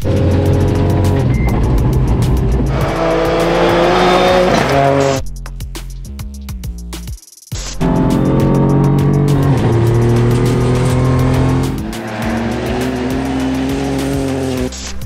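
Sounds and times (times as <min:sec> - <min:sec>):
rally car engine revving: 0:00.0 - 0:05.3, 0:07.7 - 0:15.0
music: 0:00.0 - 0:15.0.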